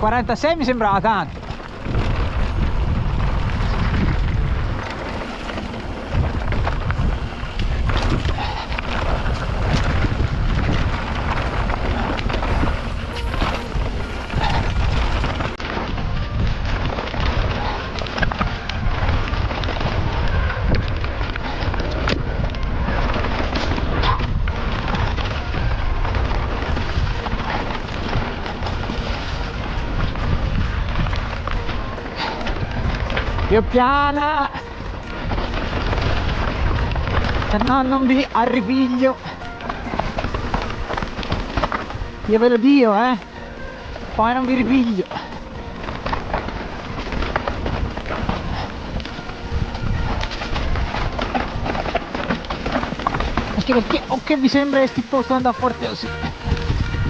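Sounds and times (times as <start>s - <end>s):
bike rattles and knocks: 0.0s - 57.0s
tyres on dirt and stones: 0.0s - 57.0s
wind buffeting microphone: 0.0s - 57.0s.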